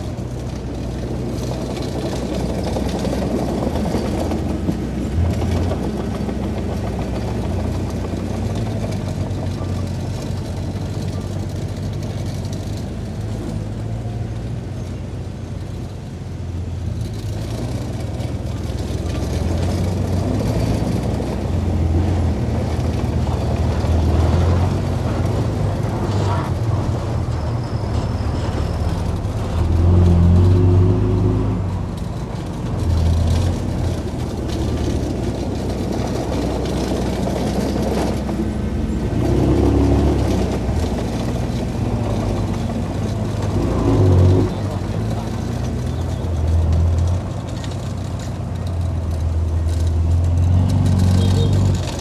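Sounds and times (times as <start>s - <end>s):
heavy diesel engine droning: 0.0s - 52.0s.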